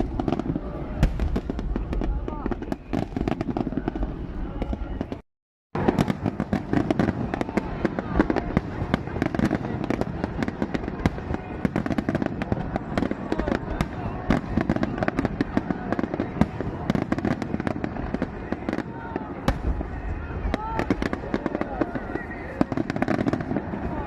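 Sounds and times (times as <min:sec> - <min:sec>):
fireworks crackling and banging: 0:00.0 - 0:05.2, 0:05.8 - 0:24.0
people talking: 0:00.0 - 0:05.2, 0:05.8 - 0:24.0.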